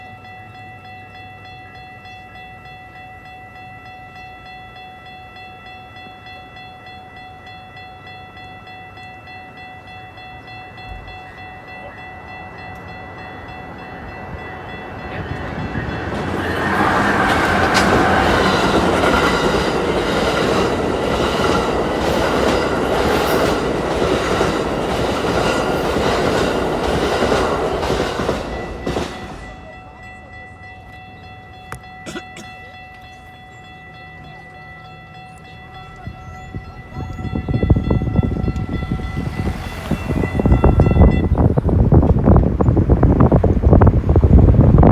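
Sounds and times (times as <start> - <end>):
passenger train rushing past: 0.0 - 44.9
wheels clicking over rail joints: 7.5 - 44.7.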